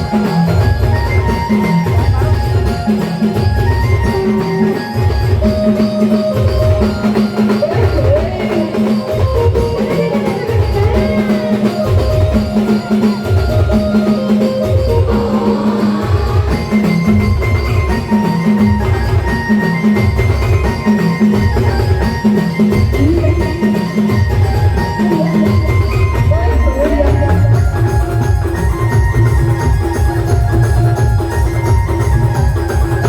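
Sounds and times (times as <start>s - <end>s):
bell-like melody: 0.0s - 33.0s
heavy drum beat: 0.0s - 33.0s.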